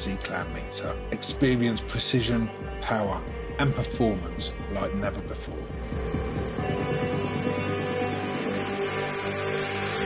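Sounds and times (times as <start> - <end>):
instrumental music with held tones: 0.0 - 10.0.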